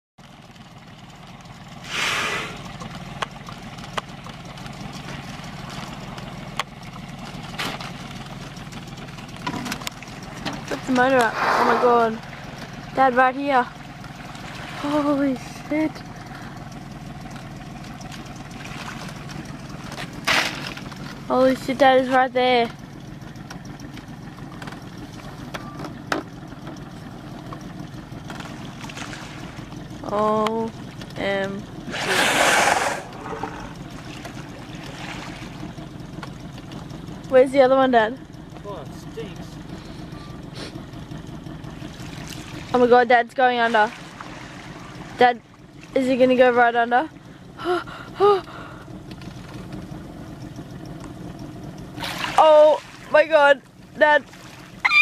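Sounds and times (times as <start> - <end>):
outboard motor idling: 0.2 - 55.0.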